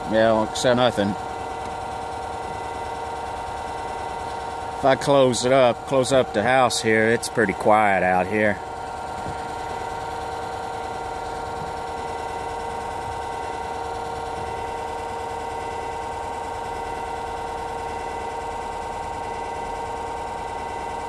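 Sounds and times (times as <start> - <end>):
electric boat motor whining: 0.0 - 21.0.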